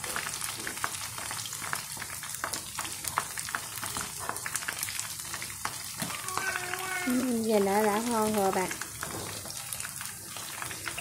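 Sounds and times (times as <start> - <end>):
deep-frying sizzle with crackling pops: 0.0 - 11.0.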